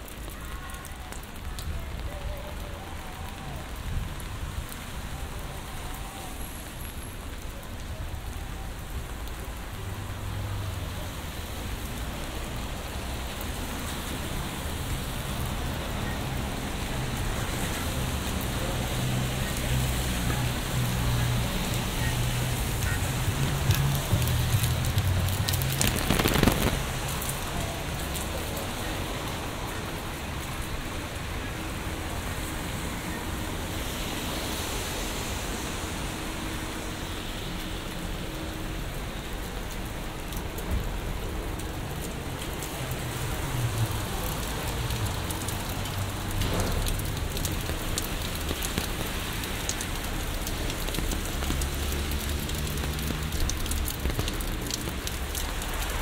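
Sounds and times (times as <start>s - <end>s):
low rumble of traffic: 0.0s - 56.0s
rain falling on wet street: 0.0s - 56.0s
rain pattering on an umbrella: 0.0s - 56.0s.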